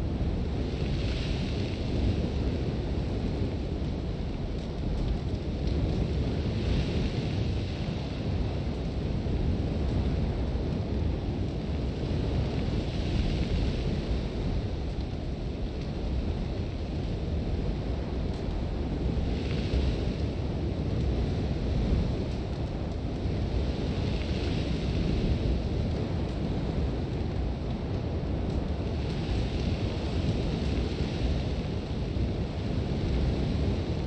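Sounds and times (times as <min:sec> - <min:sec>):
sandstorm wind rumbling: 0:00.0 - 0:34.0.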